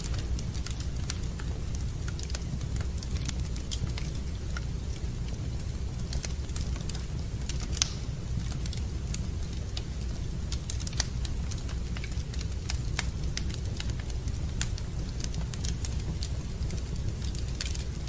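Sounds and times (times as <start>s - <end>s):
wood fire crackling: 0.0s - 18.0s
sharp pops from fire: 0.1s - 18.0s.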